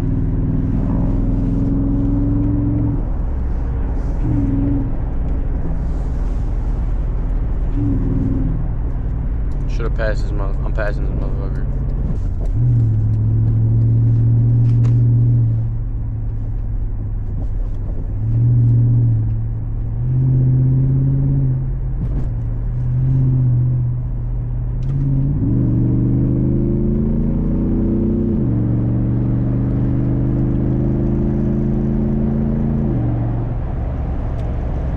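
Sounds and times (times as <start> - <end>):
car engine revving under load: 0.0 - 34.9.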